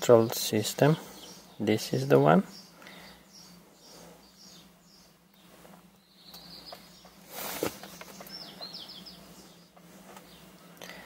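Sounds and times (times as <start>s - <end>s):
bird chirps: 1.1s - 10.8s.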